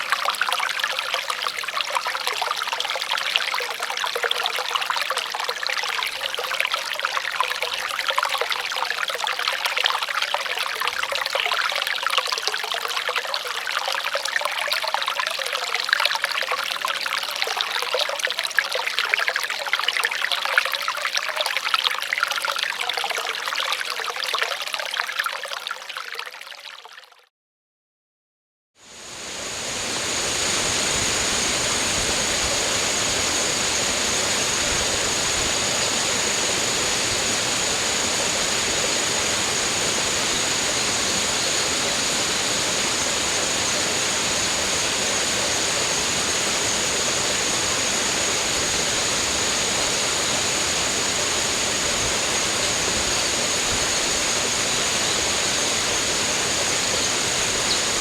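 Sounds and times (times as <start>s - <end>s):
running water rushing: 0.0s - 24.0s, 28.8s - 58.0s.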